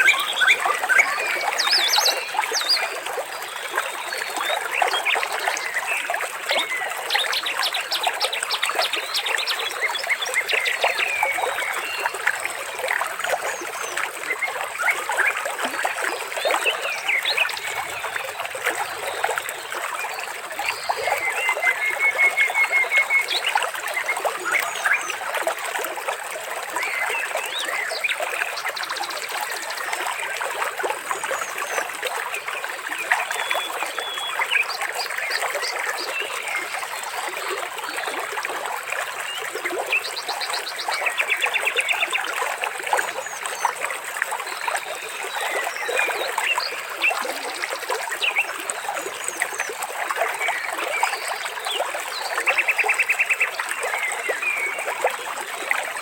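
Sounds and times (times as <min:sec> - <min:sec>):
water trickling: 0:00.1 - 0:56.0.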